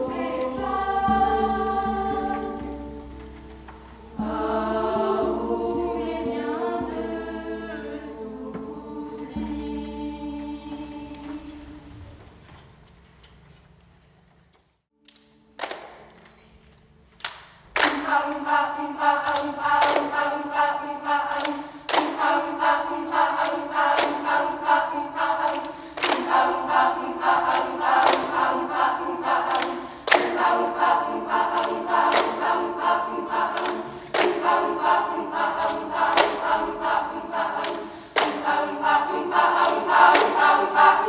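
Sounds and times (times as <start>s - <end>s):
choir singing sustained chords: 0.0s - 12.4s, 17.8s - 41.0s.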